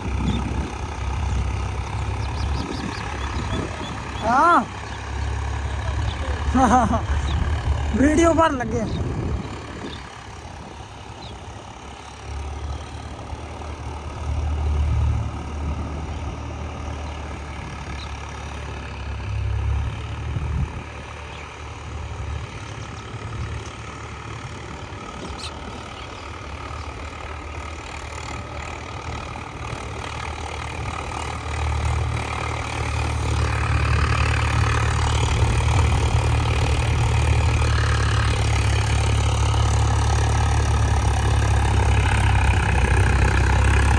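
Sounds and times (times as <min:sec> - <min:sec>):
tractor diesel engine rumbling: 0:00.0 - 0:43.9.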